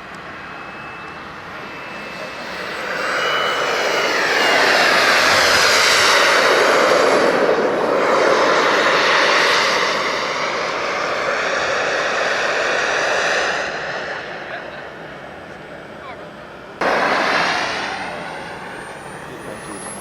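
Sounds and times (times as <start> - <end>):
model airplane engine flying past: 0.0 - 20.0.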